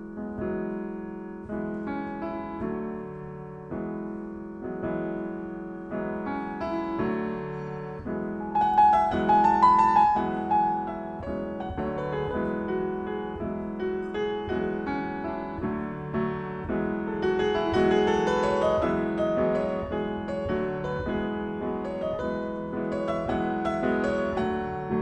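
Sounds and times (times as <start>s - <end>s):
solo piano jazz improvisation: 0.0s - 25.0s.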